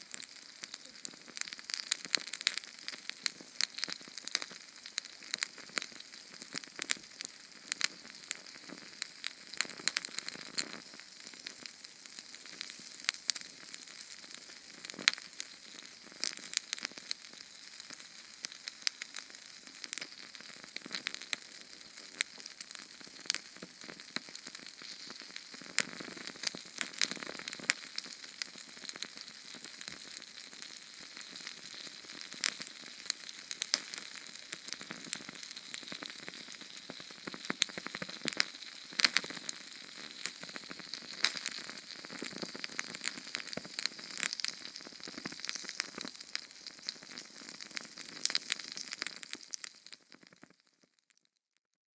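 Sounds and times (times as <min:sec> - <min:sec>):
small flame crackling and popping: 0:00.0 - 0:51.6.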